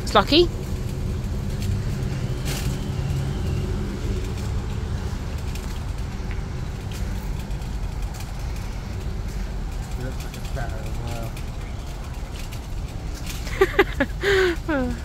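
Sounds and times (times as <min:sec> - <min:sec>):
shopping cart wheels rattling: 0:00.0 - 0:15.0.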